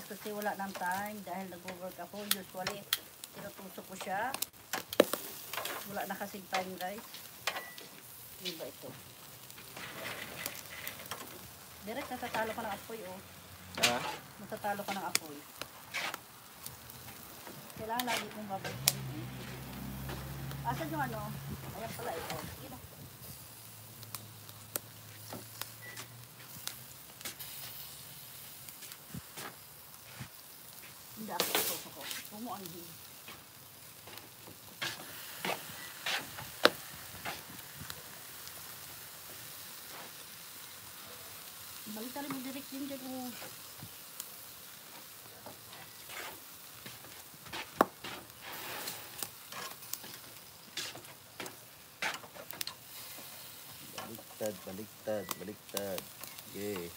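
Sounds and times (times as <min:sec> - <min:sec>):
meat sizzling on a grill: 0:00.0 - 0:56.9.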